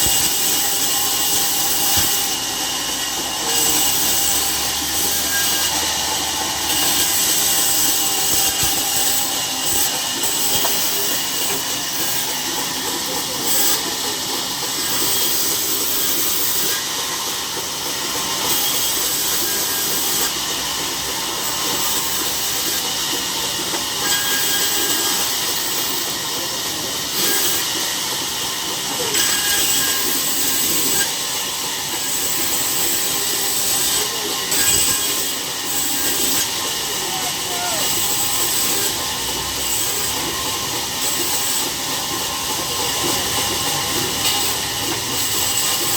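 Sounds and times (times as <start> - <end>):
saw cutting through log: 0.0 - 45.9.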